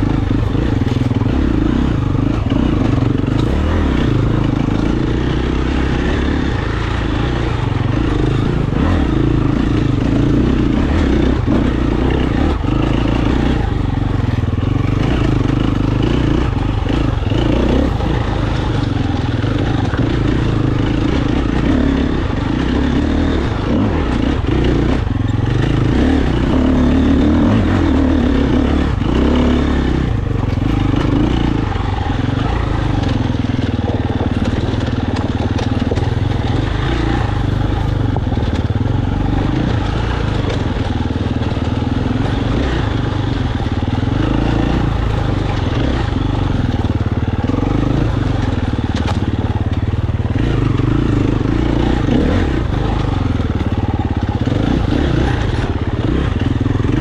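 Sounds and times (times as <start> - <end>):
motorcycle engine running: 0.0 - 57.0
motorcycle knocks and rattles: 0.0 - 57.0.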